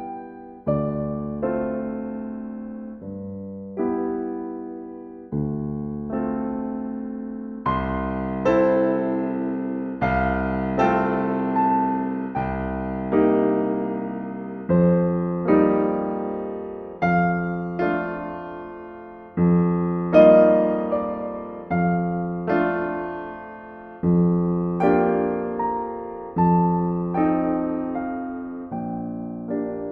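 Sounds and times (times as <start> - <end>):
gentle solo piano chords: 0.0 - 29.9.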